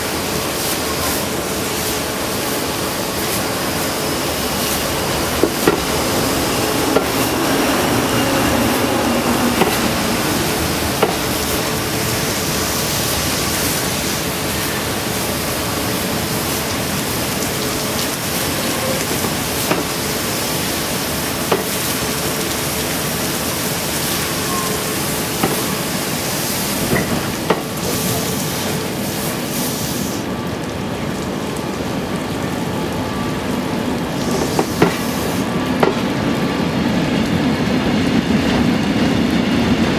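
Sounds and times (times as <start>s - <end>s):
water jets spraying train: 0.0s - 39.9s.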